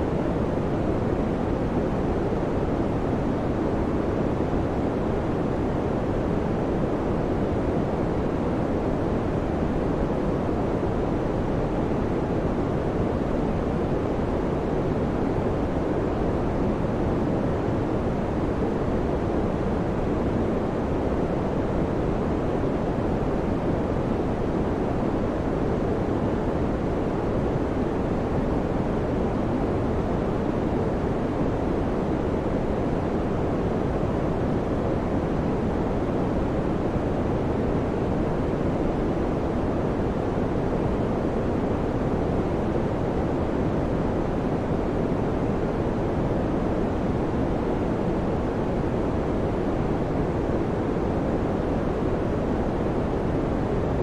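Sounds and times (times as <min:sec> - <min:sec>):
fan air rush: 0:00.0 - 0:54.0.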